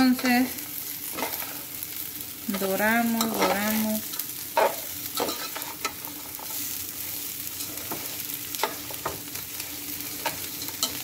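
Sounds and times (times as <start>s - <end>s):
rice sizzling in hot oil: 0.0s - 11.0s.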